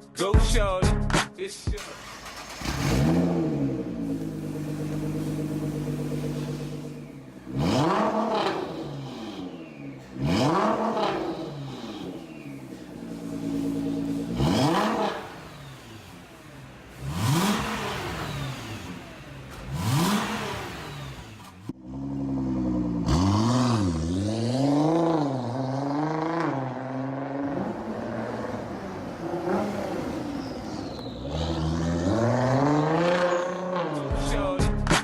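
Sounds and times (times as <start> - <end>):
car engine revving: 1.8 - 34.5.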